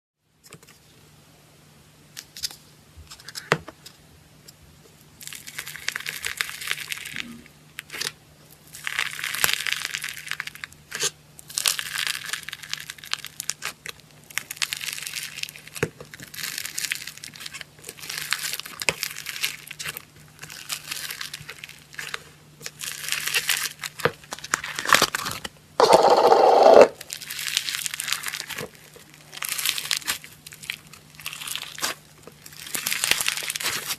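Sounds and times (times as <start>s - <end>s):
deep slime squish: 5.2s - 33.9s
foam slime crackling: 5.2s - 33.9s.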